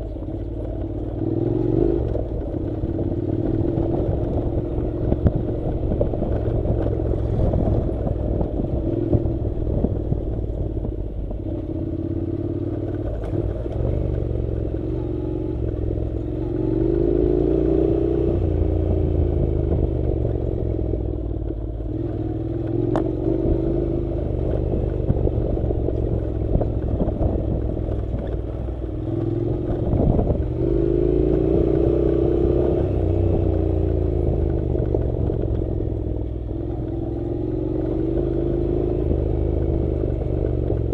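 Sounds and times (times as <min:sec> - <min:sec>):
clatter from bumpy dirt road: 0:00.0 - 0:40.9
motorcycle engine running: 0:00.0 - 0:40.9.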